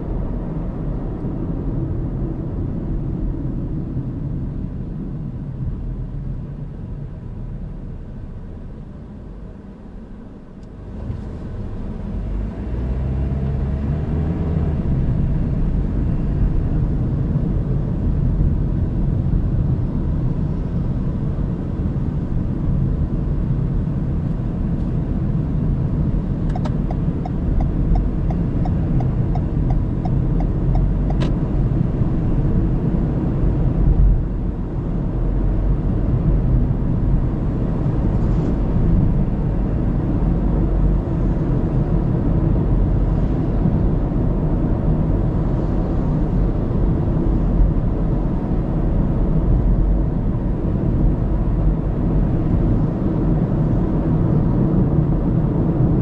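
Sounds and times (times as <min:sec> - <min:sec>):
tyre and road noise: 0:10.6 - 0:56.0.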